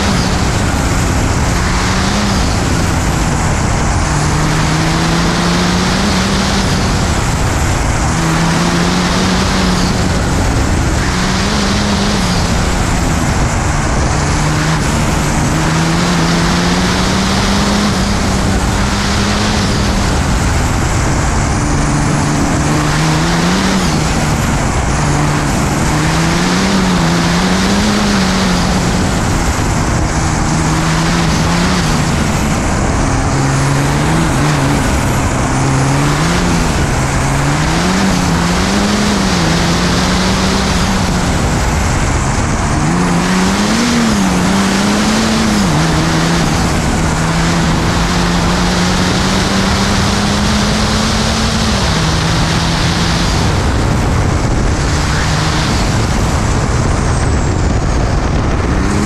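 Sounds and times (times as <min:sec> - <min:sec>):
air and road noise: 0:00.0 - 0:59.0
diesel engine revving: 0:00.0 - 0:59.0.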